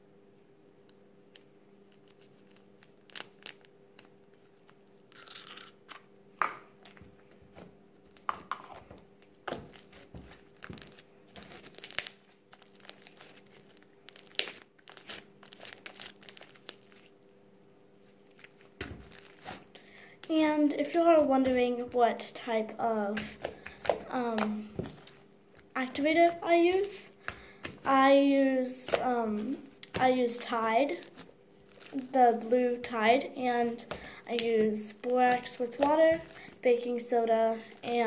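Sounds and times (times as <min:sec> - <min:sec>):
slime kneaded with sticky crackles: 0:01.2 - 0:38.0.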